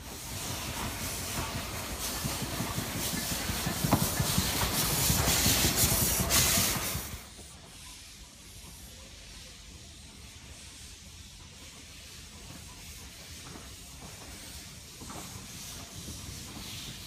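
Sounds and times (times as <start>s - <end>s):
steam locomotive hissing steam: 0.0s - 17.0s.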